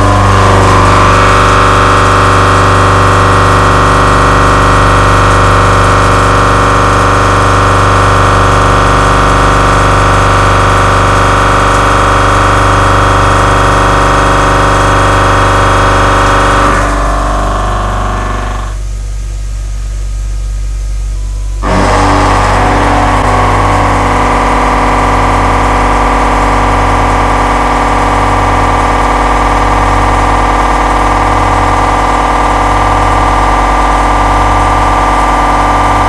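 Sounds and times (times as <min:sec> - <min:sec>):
milling machine whine: 0:00.0 - 0:19.2, 0:21.1 - 0:36.0
low hum: 0:00.0 - 0:36.0.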